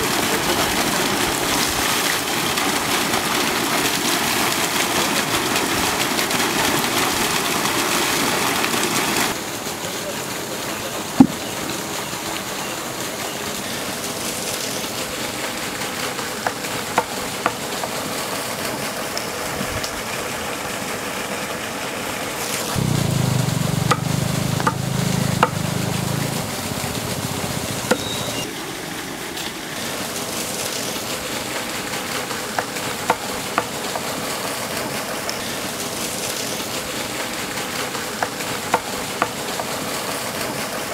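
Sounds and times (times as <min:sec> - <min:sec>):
water gushing from a pipe: 0:00.0 - 0:40.9.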